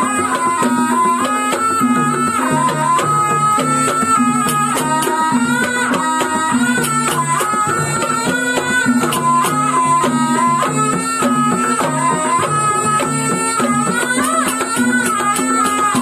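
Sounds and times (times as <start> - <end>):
drum strokes: 0.0 - 16.0
shawm melody: 0.0 - 16.0.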